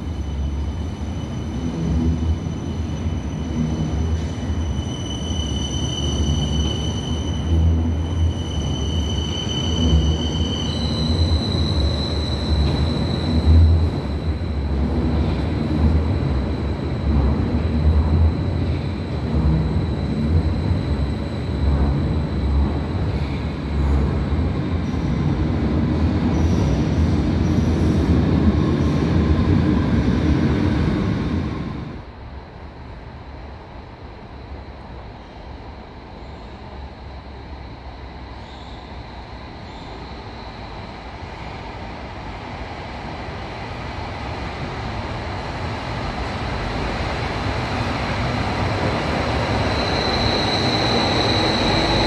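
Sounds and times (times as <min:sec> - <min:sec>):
train rumbling on track: 0:00.0 - 0:52.0.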